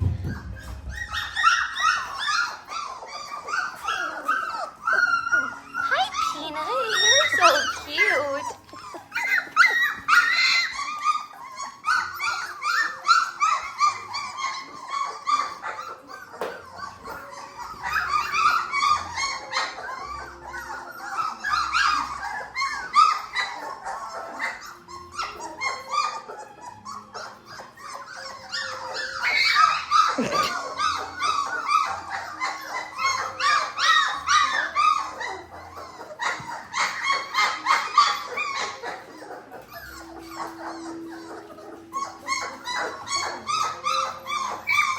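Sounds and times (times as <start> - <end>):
puppies yelping: 0.0 - 44.9.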